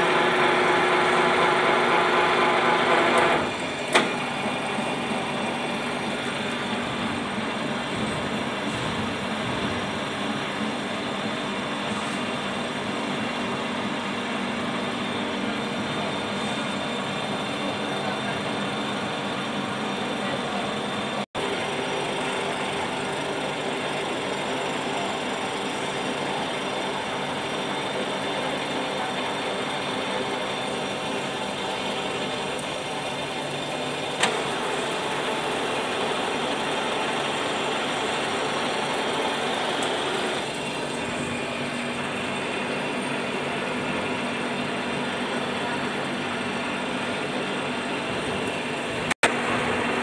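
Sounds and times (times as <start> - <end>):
boring machine motor hum: 0.0 - 50.0.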